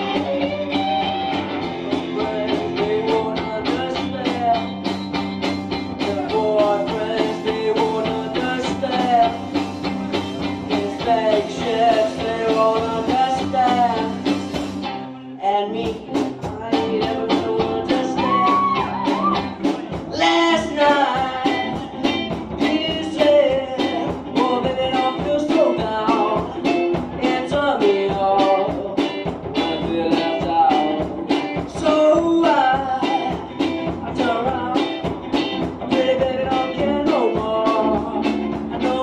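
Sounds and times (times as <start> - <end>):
drum kit: 0.0 - 15.1, 15.7 - 39.0
bass guitar: 0.0 - 39.0
electric guitars: 0.0 - 39.0
male singer: 1.6 - 5.0, 5.8 - 9.7, 10.4 - 14.5, 15.1 - 39.0.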